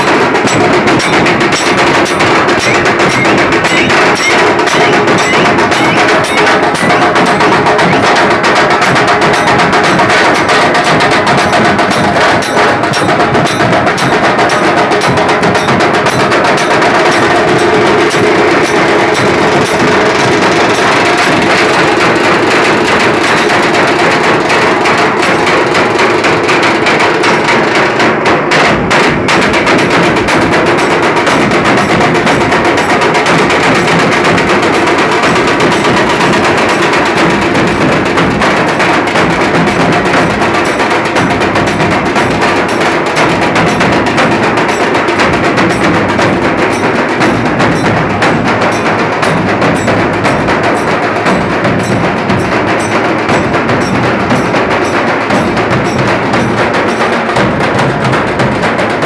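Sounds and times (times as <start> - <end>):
dhol drums beaten with sticks: 0.0 - 59.0.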